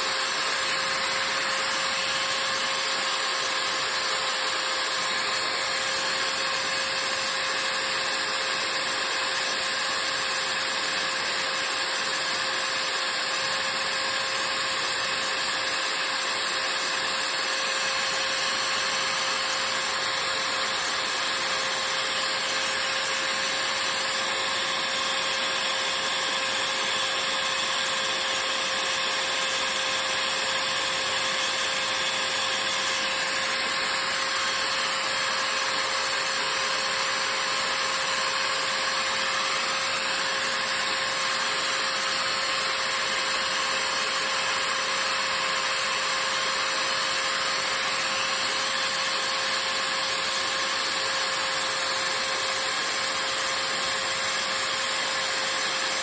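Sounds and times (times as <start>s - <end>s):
small power-tool motor whining: 0.0s - 56.0s.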